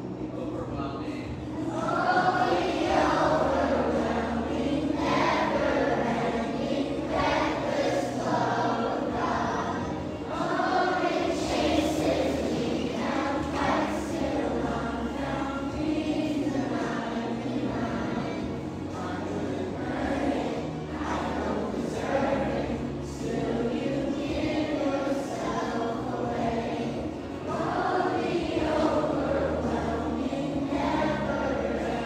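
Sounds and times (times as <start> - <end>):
accompanying music: 0.0 - 32.0
children singing together: 1.5 - 32.0.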